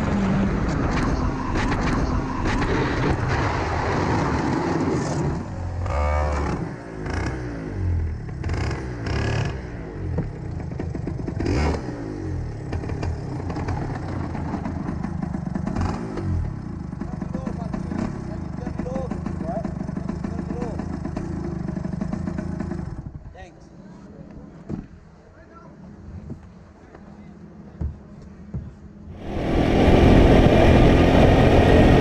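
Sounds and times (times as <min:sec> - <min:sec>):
go-kart engine revving: 0:00.0 - 0:23.2, 0:29.2 - 0:32.0.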